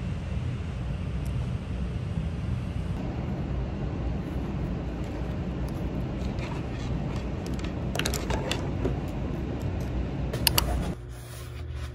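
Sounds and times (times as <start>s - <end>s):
low rumbling background noise: 0.0s - 11.9s.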